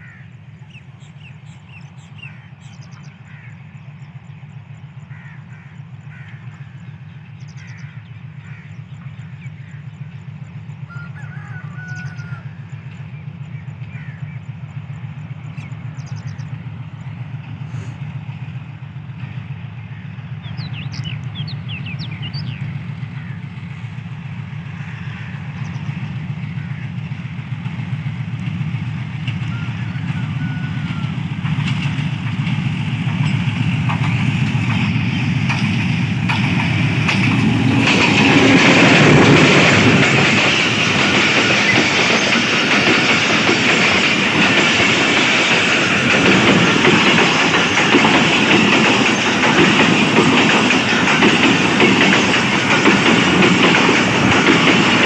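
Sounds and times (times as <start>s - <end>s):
birds chirping: 0.0s - 17.6s, 19.7s - 24.0s, 24.7s - 26.9s, 33.2s - 55.0s
diesel locomotive engine drone: 0.0s - 55.0s.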